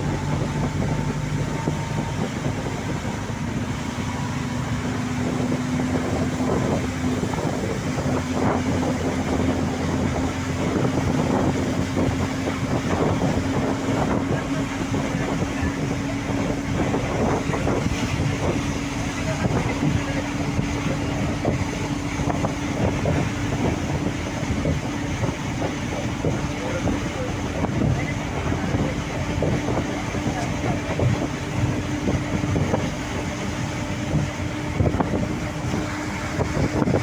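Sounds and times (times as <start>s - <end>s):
continuous rushing noise: 0.0s - 37.0s
vehicle motor hum: 0.0s - 37.0s.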